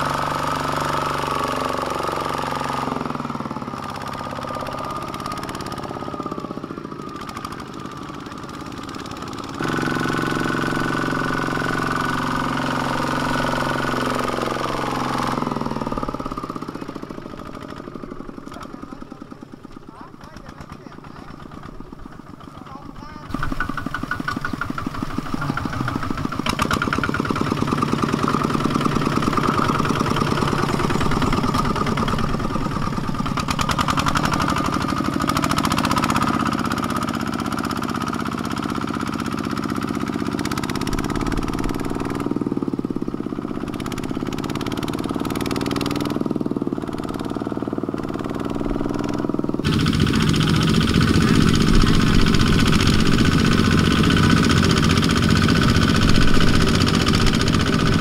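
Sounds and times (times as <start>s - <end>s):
diesel engines chugging: 0.0s - 58.0s.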